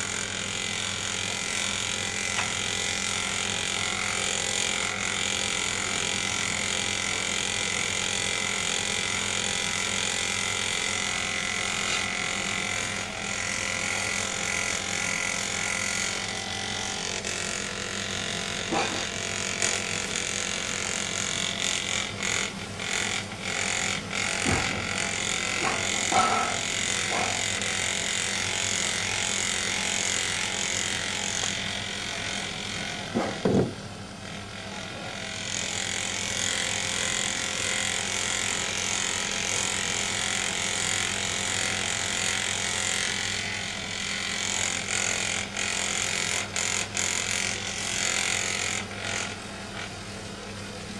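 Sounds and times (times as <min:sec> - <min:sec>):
electric massager buzzing: 0:00.0 - 0:50.9.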